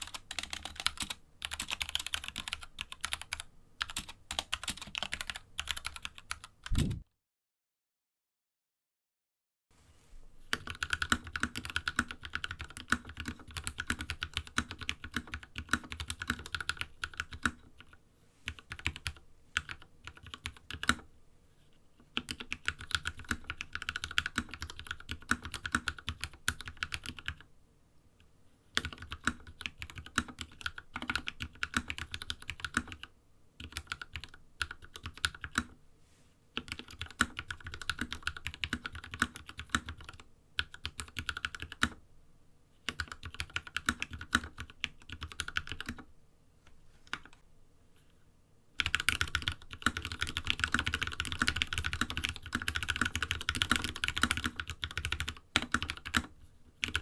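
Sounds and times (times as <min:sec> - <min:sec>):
mechanical keyboard typing: 0:00.0 - 0:07.0, 0:10.5 - 0:21.1, 0:22.1 - 0:27.5, 0:28.8 - 0:35.7, 0:36.6 - 0:42.0, 0:42.9 - 0:46.1, 0:47.1 - 0:47.4, 0:48.8 - 0:57.0.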